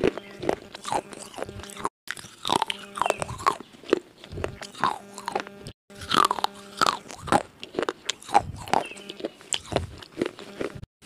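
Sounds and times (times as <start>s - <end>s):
crunchy biting and chewing: 0.0s - 10.9s.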